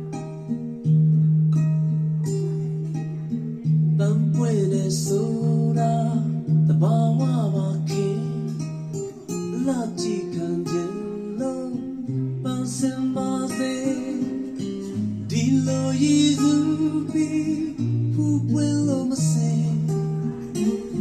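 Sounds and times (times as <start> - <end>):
acoustic guitar song: 0.0 - 21.0.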